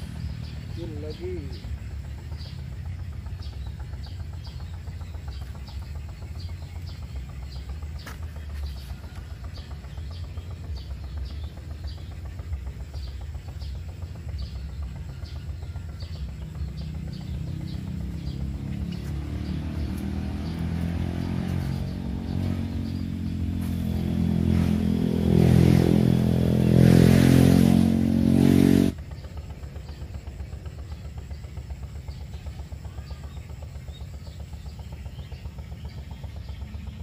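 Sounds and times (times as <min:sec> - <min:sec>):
small bird chirping: 0:00.0 - 0:28.2, 0:28.9 - 0:37.0.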